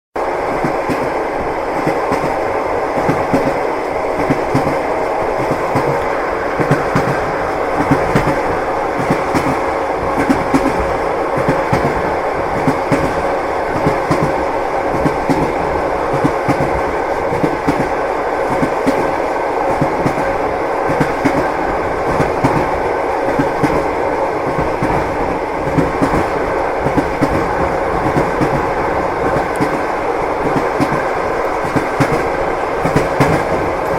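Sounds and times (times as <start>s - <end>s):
train wheels rumbling on rail: 0.2s - 33.9s.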